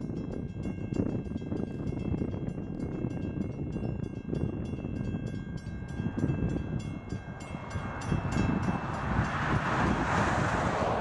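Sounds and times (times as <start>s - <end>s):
crossing warning bell ringing: 0.0s - 10.0s
freight train rumble: 0.0s - 11.0s.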